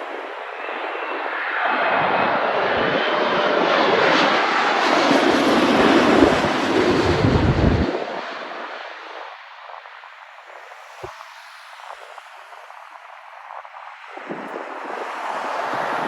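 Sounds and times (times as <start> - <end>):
jet airliner engines roaring: 0.0 - 16.0.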